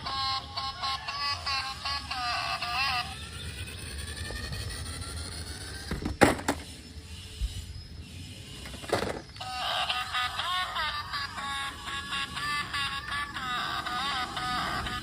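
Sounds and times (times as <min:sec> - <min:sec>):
toy motor whirring: 0:00.0 - 0:15.0.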